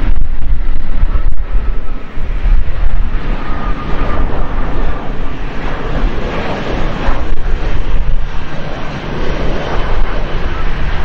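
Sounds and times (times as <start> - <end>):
faint engine whine: 0.0 - 11.0
jet engines rumbling: 0.0 - 11.0
wind buffeting microphone: 0.0 - 11.0.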